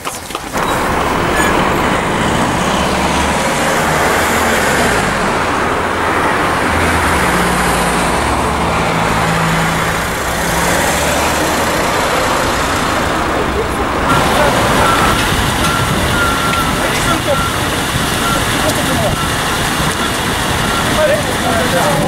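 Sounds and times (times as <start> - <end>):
car engines humming: 0.0 - 22.0
road noise rush: 0.0 - 22.0.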